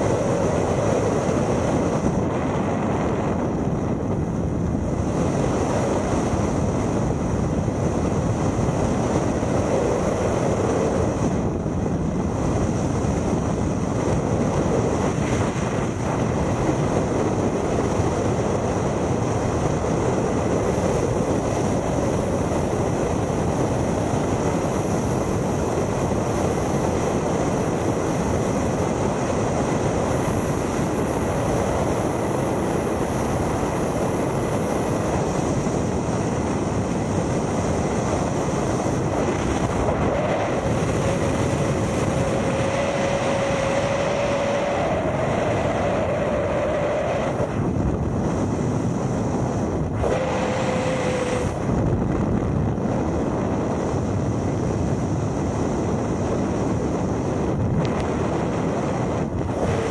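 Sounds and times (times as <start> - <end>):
wind rushing across microphone: 0.0 - 59.9.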